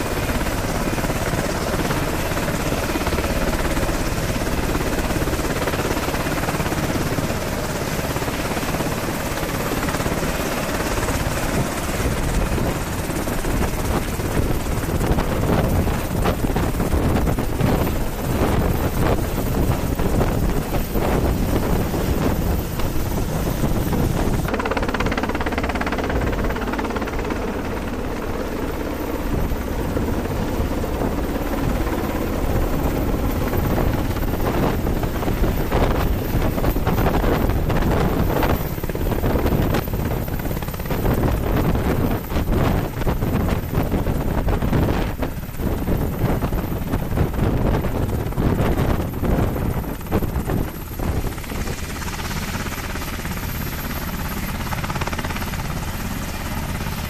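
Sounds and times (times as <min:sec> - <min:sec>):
helicopter engines and rotor: 0:00.0 - 0:57.0
rotor blades fluttering beat: 0:00.0 - 0:57.0.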